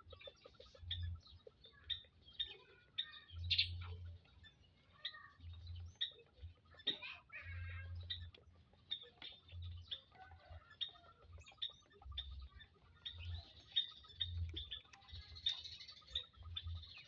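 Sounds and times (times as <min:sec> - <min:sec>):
quail chirping: 0:00.0 - 0:17.0.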